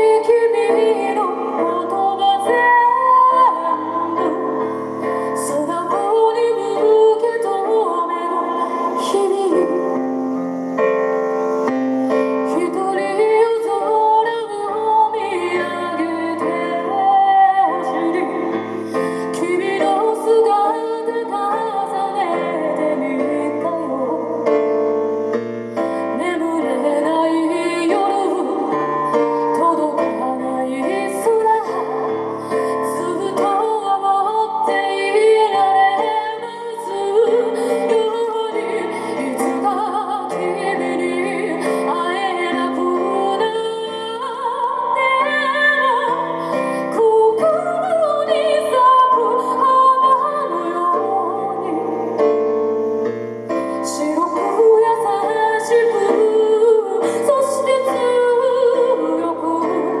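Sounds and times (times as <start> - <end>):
electric keyboard: 0.0 - 60.0
woman singing into microphone: 0.0 - 60.0.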